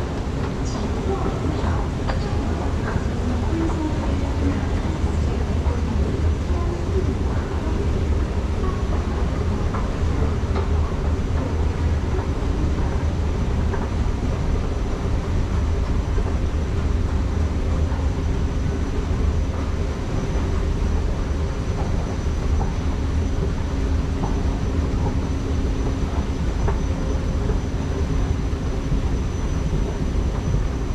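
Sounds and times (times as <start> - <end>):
faint hum: 0.0 - 30.9
train rumble: 0.0 - 30.9.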